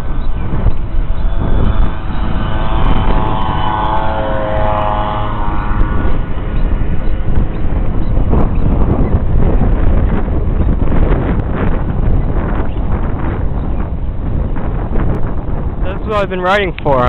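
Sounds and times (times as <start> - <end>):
passing engine hum: 0.0 - 17.0
wind buffeting microphone: 0.0 - 17.0.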